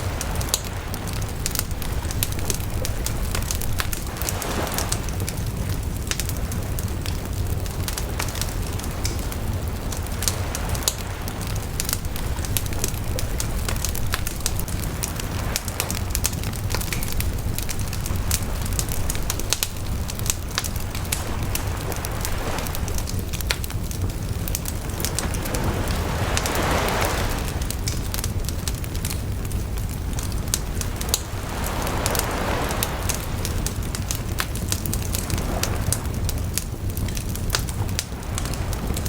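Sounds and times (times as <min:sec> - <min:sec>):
bonfire flames rumbling: 0:00.0 - 0:39.0
fire crackling and popping: 0:00.0 - 0:39.0.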